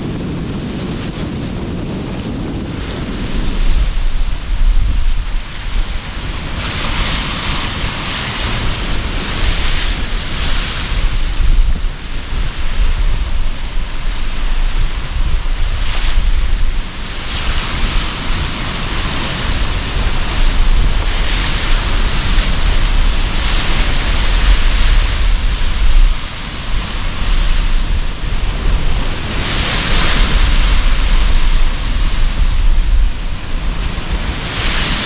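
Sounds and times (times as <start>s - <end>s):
sea surf waves washing in: 0.0s - 35.0s
wind buffeting microphone: 0.0s - 35.0s.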